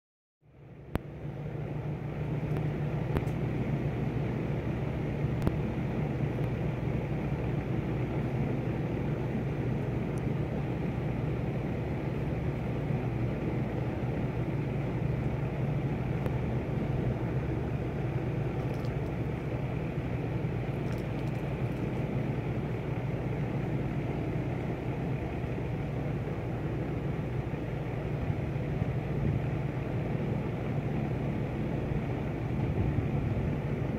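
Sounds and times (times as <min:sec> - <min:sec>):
low outdoor rumble: 0:00.4 - 0:33.9.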